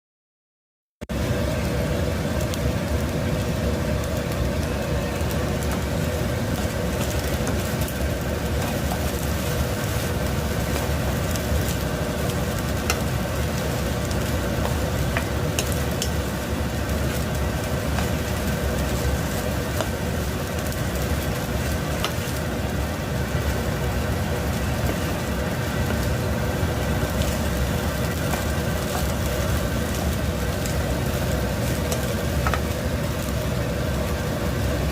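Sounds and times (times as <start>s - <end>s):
low rumble and hum: 1.1s - 34.9s
rice sizzling in a pan: 1.1s - 34.9s.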